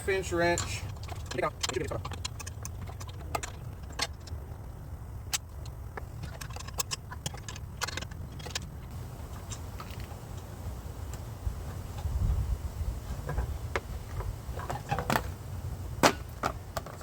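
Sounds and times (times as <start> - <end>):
steady low rumble: 0.0 - 16.8.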